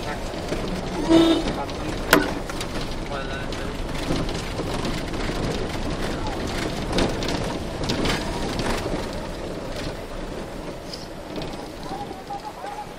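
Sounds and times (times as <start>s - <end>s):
moving vehicle rumble: 0.0s - 12.9s
sharp rattles: 0.0s - 12.9s.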